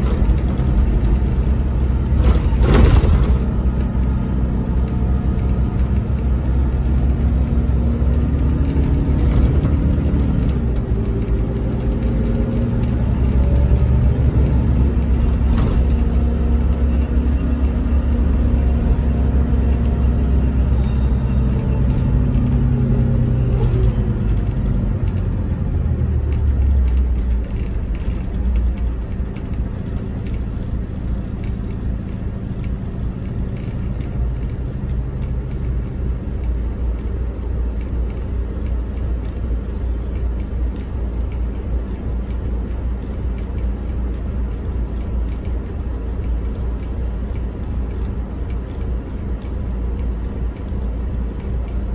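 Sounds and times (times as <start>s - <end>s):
bus diesel engine: 0.0s - 51.9s
road rumble: 0.0s - 51.9s.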